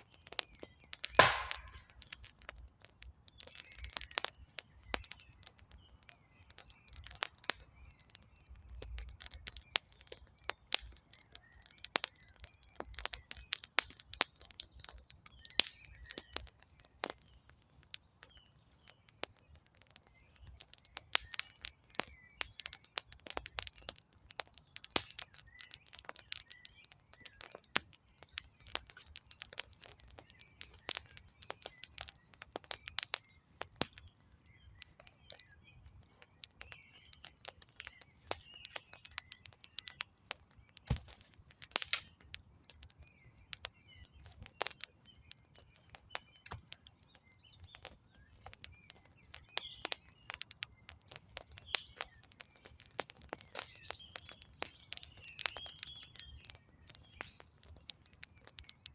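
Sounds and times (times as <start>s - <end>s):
campfire crackling and popping: 0.0s - 58.9s
small birds chirping: 0.0s - 58.9s.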